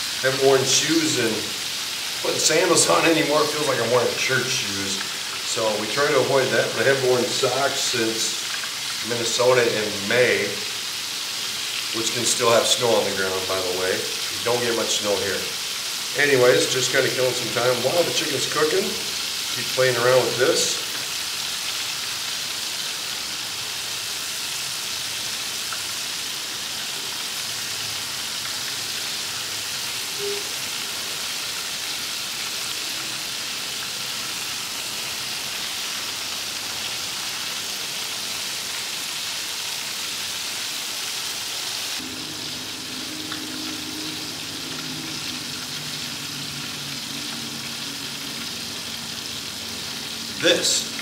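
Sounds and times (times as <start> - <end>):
food deep-frying in oil: 0.0 - 51.0.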